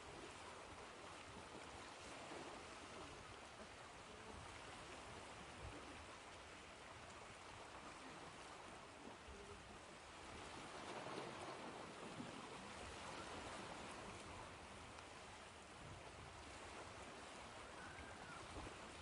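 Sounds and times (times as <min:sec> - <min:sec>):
faint ocean surf hiss: 0:00.0 - 0:19.0.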